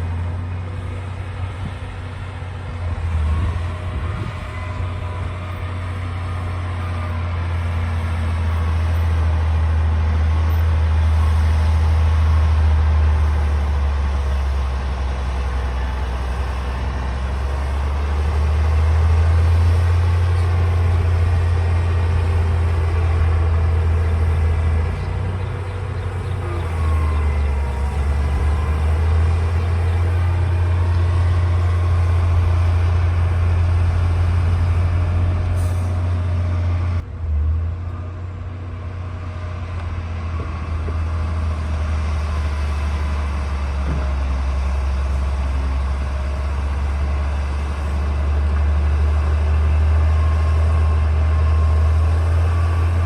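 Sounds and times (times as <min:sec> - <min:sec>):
bulldozer diesel engine droning: 0:00.0 - 0:53.0.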